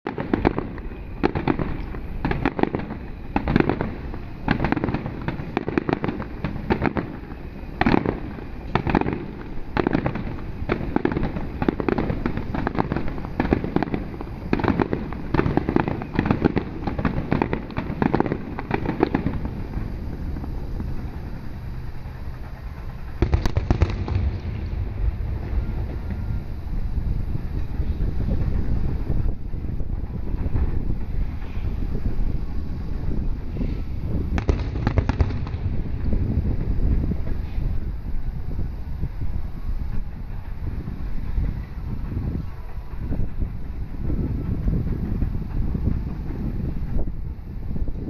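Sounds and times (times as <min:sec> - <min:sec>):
fireworks bursting: 0:00.1 - 0:48.0.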